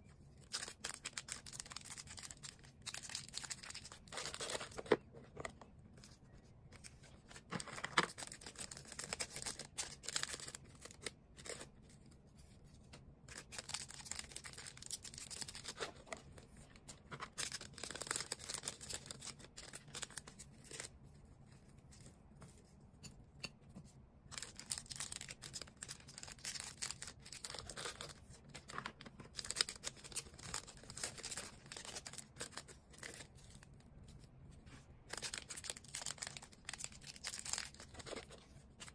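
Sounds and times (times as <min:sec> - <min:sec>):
packaging rustling and crinkling: 0:00.4 - 0:11.8, 0:13.3 - 0:20.9, 0:24.3 - 0:33.8, 0:35.1 - 0:38.9.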